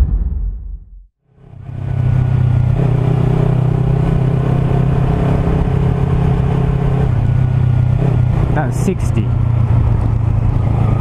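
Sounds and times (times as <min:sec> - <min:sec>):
road noise: 0:01.2 - 0:11.0
motorcycle engine cruising: 0:01.3 - 0:11.0.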